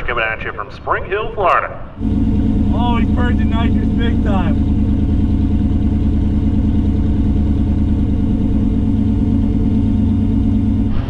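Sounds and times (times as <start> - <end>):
car engine idling: 1.2 - 11.0.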